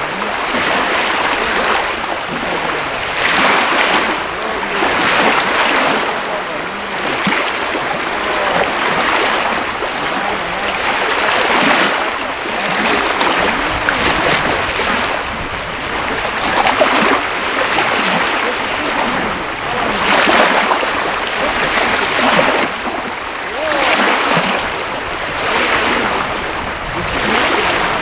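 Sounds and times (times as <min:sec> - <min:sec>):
sea waves washing onto beach: 0:00.0 - 0:28.0.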